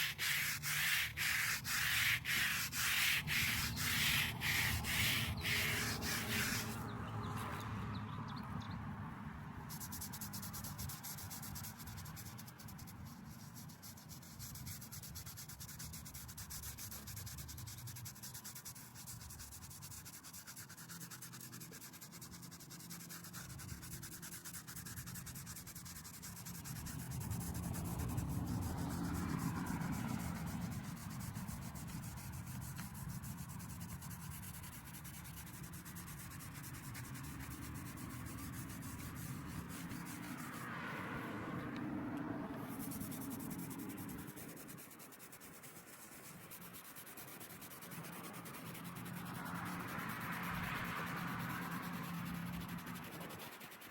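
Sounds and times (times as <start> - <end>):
brush scrubbing stone: 0.0 - 6.9, 9.7 - 40.8, 42.7 - 53.9.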